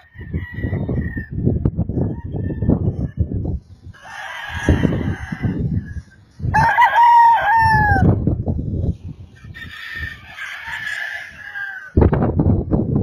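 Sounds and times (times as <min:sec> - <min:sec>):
roosters crowing: 0:00.0 - 0:03.3, 0:03.9 - 0:08.3, 0:09.3 - 0:12.1.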